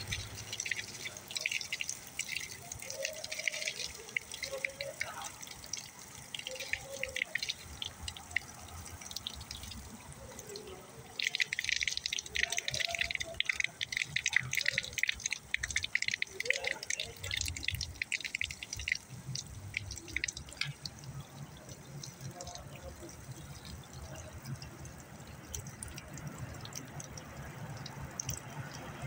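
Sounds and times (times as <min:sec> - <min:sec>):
water splashing into puddle: 0:00.0 - 0:29.0.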